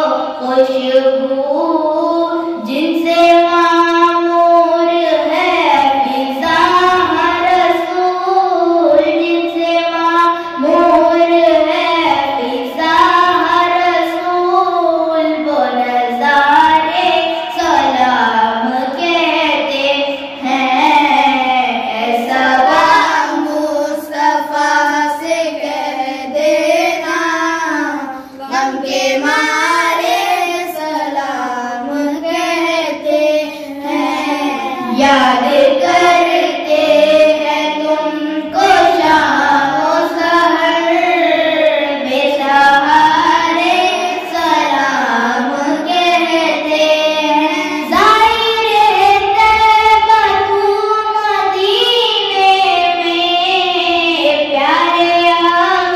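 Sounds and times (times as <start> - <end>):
boy singing into a microphone: 0.0 - 55.9.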